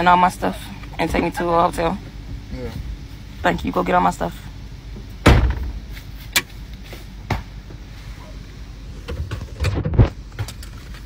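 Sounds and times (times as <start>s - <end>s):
low steady car rumble: 0.0s - 11.0s.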